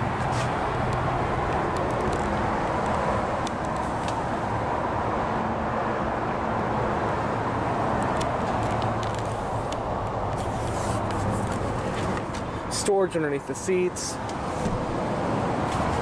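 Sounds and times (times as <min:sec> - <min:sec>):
highway traffic rush and hum: 0:00.0 - 0:16.0.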